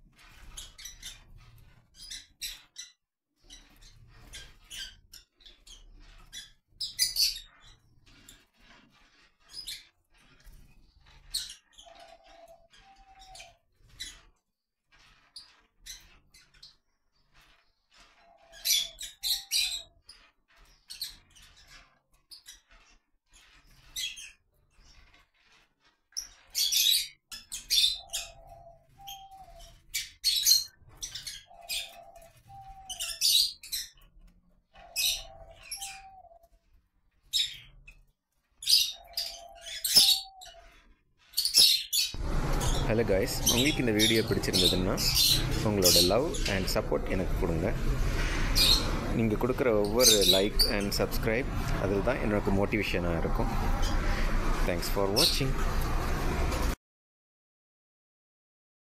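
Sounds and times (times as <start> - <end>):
lovebirds shrill chirps: 0.2 - 14.2, 15.0 - 25.2, 26.2 - 34.1, 34.8 - 36.5, 37.3 - 38.0, 38.6 - 55.5.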